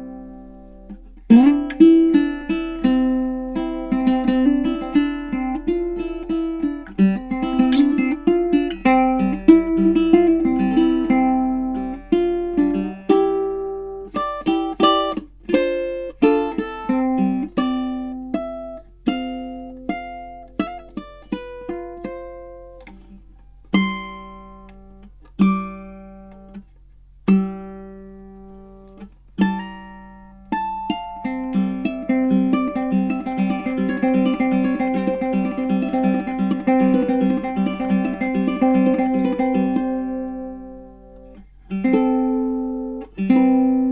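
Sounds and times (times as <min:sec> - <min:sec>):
ukulele playing: 0:00.0 - 0:43.9.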